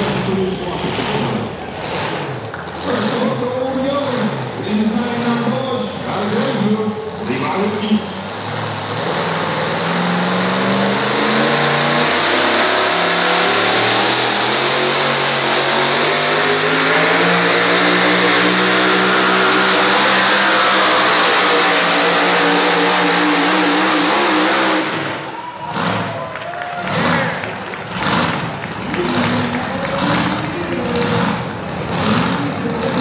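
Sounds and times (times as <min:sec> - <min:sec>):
truck engine revving under load: 0:00.0 - 0:33.0.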